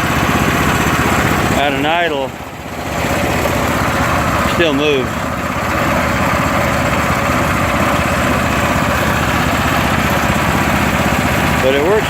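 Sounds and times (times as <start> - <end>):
small gasoline engine idling: 0.0 - 12.0.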